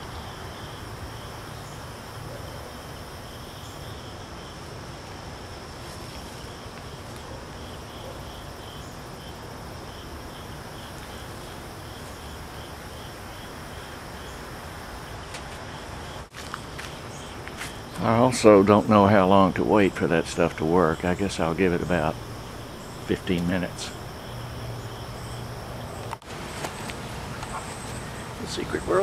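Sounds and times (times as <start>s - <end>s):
insect trill: 0.0s - 26.2s
insect chirp: 0.0s - 29.0s.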